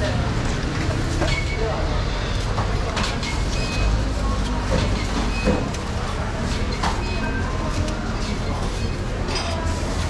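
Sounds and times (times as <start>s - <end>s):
faint voices: 0.0s - 10.0s.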